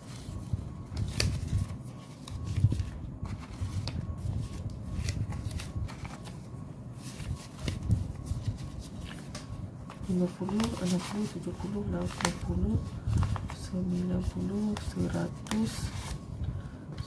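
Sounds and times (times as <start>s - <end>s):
banknotes flicked and rustled: 0.0s - 16.2s.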